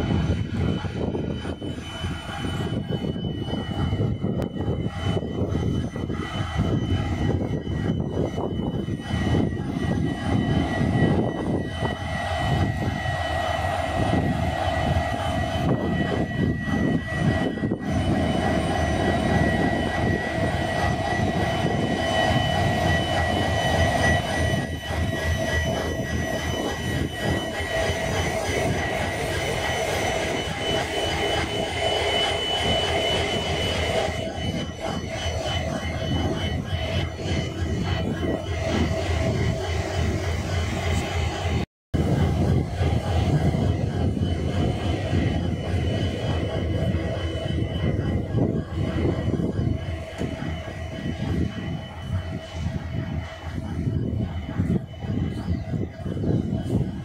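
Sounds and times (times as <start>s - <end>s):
high whine: 0.0s - 57.0s.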